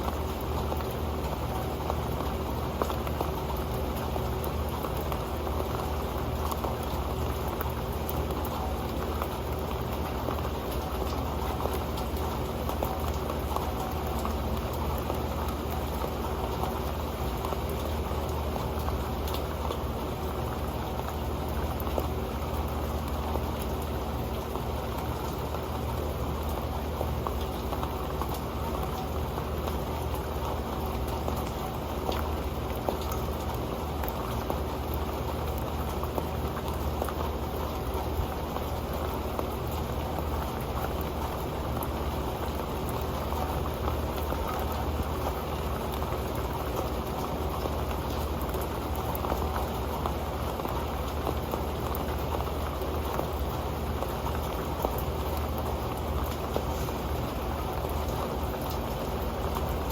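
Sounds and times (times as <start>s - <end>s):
rain on a metal pan: 0.0s - 59.9s.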